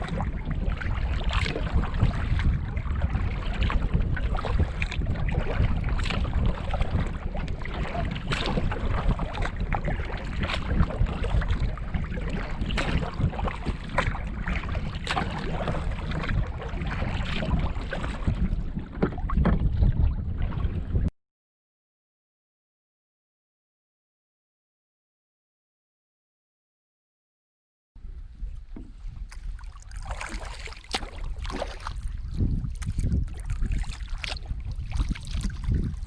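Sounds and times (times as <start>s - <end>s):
water lapping against canoe: 0.0s - 21.1s, 28.0s - 36.0s
wind buffeting microphone: 0.0s - 21.1s, 28.0s - 36.0s.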